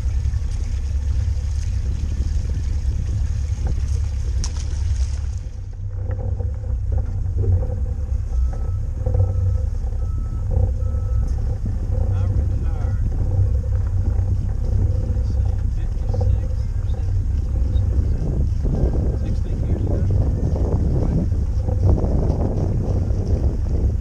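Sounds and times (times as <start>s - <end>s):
boat motor rumble: 0.0s - 24.0s.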